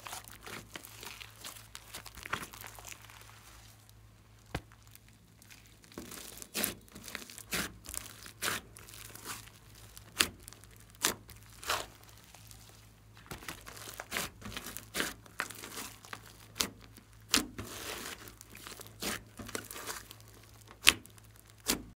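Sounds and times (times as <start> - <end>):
slime crackling and tearing: 0.0 - 22.0.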